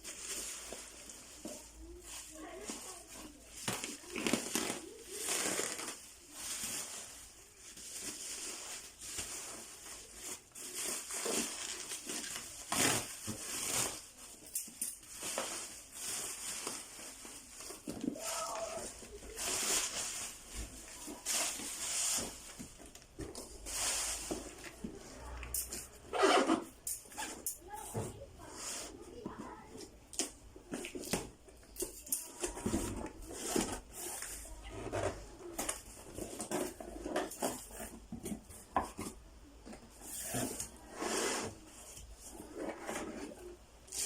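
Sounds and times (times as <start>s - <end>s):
plastic wrap and cardboard rustling: 0.0s - 44.0s.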